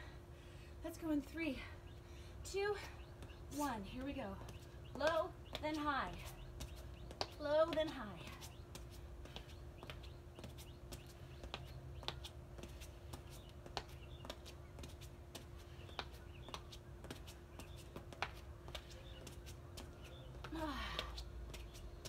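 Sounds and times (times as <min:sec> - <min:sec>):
faint steady hum: 0:00.0 - 0:22.0
sneakers tapping on concrete: 0:03.2 - 0:22.0.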